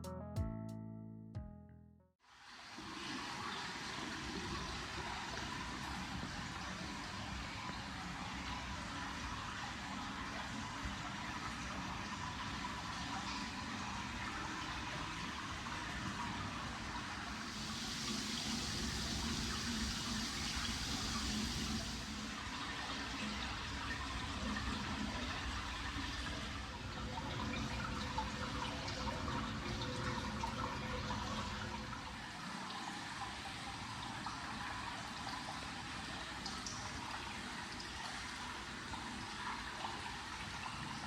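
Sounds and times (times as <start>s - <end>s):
water pouring into bath: 2.4s - 41.0s.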